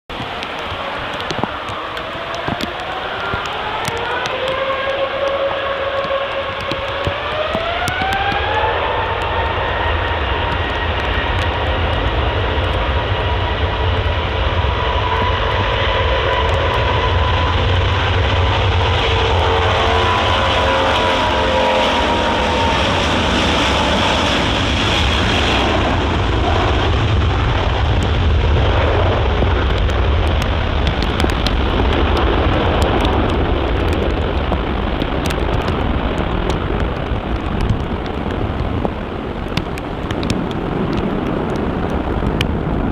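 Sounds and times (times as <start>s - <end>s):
deep jet engine roar: 0.1s - 42.9s
jet engines whining: 0.2s - 42.9s.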